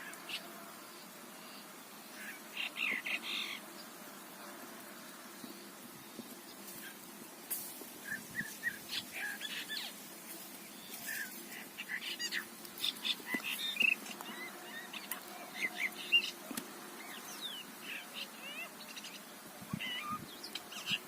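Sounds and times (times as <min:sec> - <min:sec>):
birds chirping: 0:00.0 - 0:04.1, 0:08.0 - 0:21.0.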